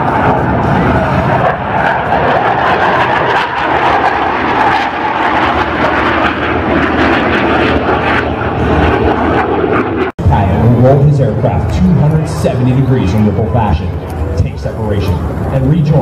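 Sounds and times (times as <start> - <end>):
airplane engine roar: 0.0 - 16.0.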